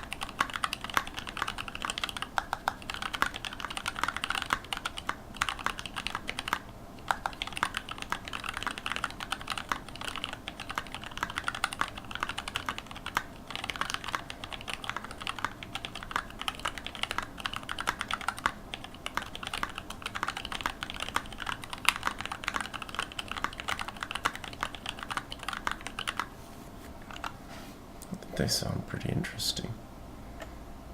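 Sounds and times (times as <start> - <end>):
fast mechanical keyboard typing: 0.0 - 26.3, 27.1 - 27.4.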